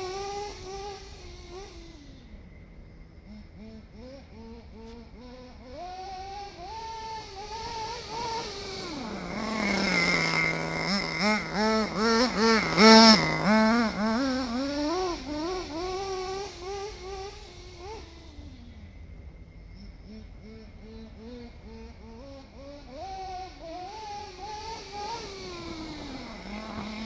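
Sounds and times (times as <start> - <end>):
radio-controlled car motor revving: 0.0 - 27.0.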